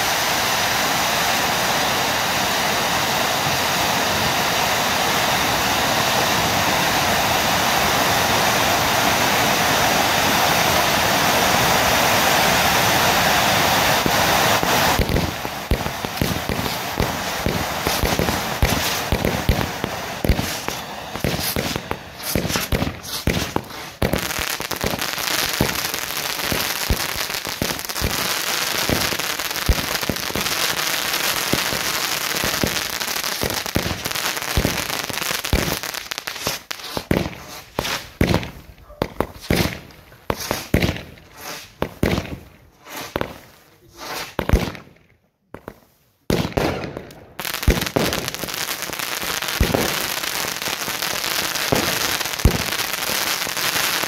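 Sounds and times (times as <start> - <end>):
fireworks bangs and crackle: 0.0 - 54.0.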